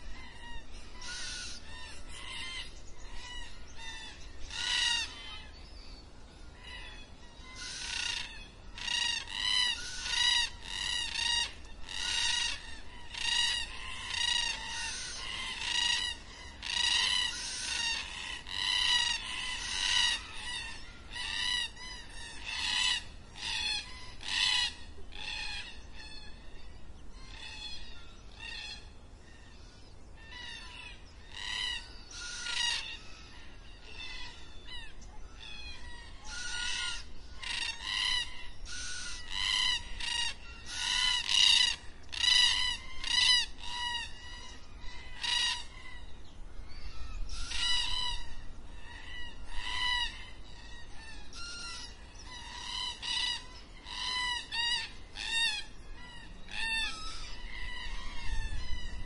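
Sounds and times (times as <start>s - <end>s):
birds calling repeated notes: 0.0s - 59.0s.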